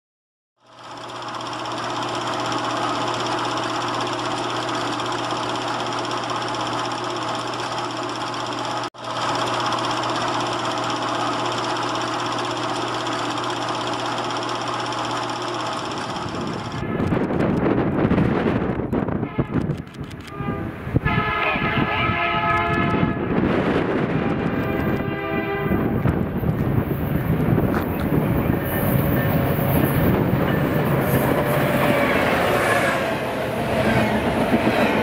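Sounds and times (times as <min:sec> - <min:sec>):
diesel locomotive engine rumbling: 0:00.6 - 0:35.0.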